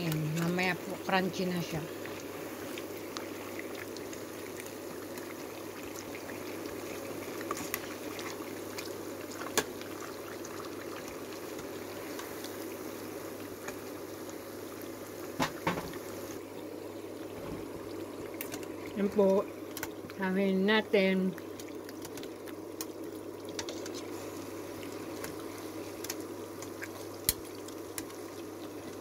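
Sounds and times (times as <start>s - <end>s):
oil sizzling and bubbling: 0.0s - 29.0s.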